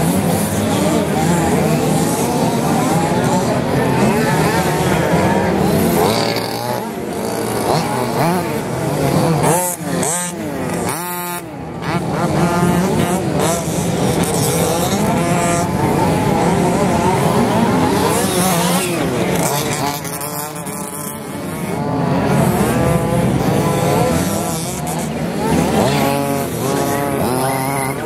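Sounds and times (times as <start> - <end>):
rc buggy engines whining: 0.0 - 28.0.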